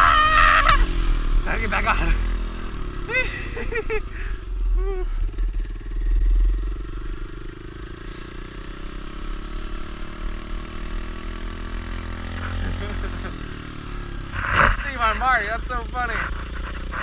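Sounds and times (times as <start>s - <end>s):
small motorbike engine running: 0.0s - 17.0s.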